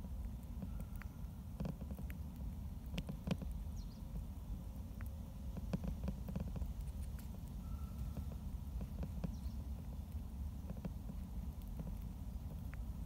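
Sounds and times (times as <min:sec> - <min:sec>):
mole eating from plastic bowl: 0:00.0 - 0:13.0
steady low rumble: 0:00.0 - 0:13.0.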